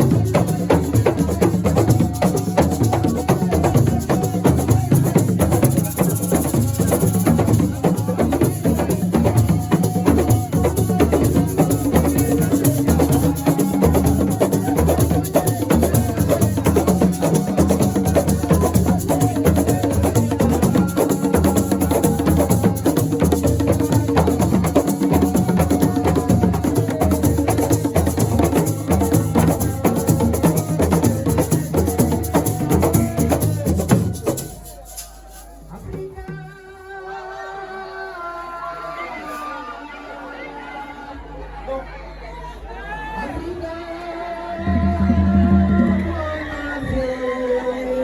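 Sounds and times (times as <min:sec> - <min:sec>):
drum and shaker percussion: 0:00.0 - 0:36.7, 0:44.6 - 0:47.2.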